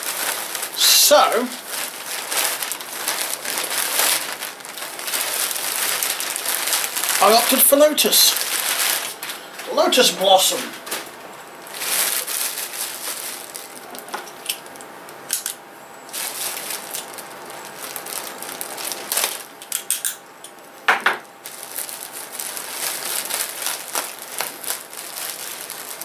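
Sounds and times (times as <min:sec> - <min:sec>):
loud plastic crackle: 0:00.0 - 0:09.8, 0:10.7 - 0:20.0, 0:21.1 - 0:26.0
plastic packaging crinkling: 0:00.0 - 0:20.0, 0:21.4 - 0:26.0.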